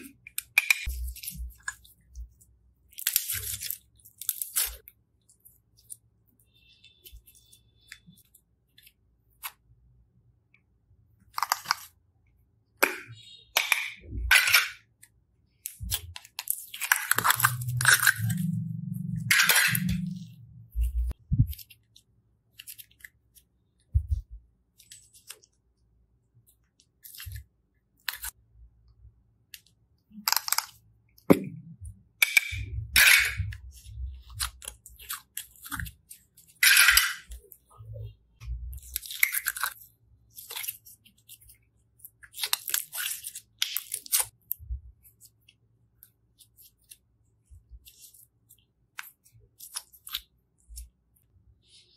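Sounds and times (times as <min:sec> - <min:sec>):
slime crackling and squelching: 0:00.0 - 0:10.1, 0:12.8 - 0:51.9.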